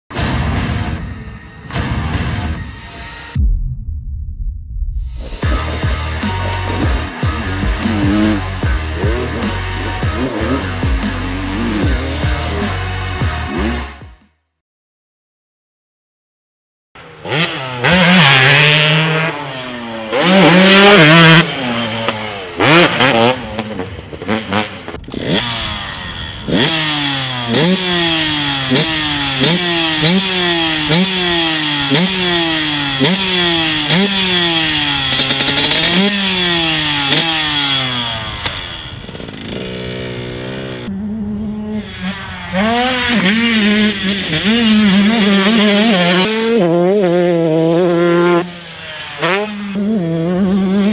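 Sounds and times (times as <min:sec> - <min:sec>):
two-stroke engine revving: 0:05.4 - 0:14.0, 0:17.0 - 0:50.9.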